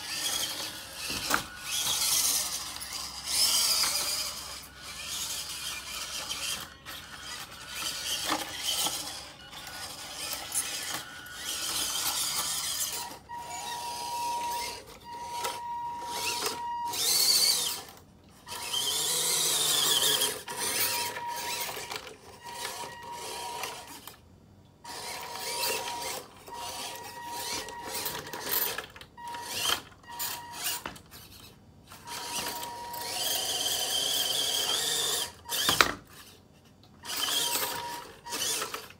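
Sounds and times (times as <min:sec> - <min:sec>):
toy truck electric motor whining: 0:00.0 - 0:24.2, 0:24.8 - 0:36.4, 0:37.0 - 0:38.9.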